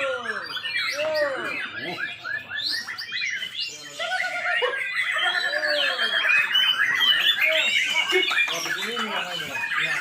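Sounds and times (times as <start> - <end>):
songbirds singing and chirping: 0.0 - 10.0.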